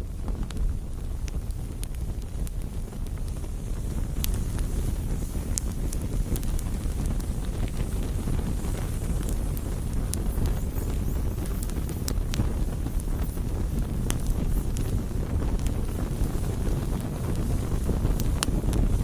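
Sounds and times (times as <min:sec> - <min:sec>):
bonfire rumbling: 0:00.0 - 0:19.0
burning wood crackling and popping: 0:00.0 - 0:19.0.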